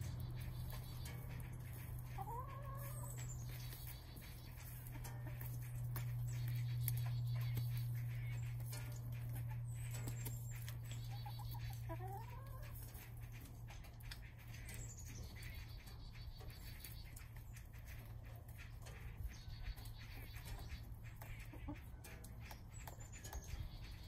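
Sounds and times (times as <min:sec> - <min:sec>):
hens pecking clicks: 0:00.0 - 0:24.0
steady low hum: 0:00.0 - 0:24.0.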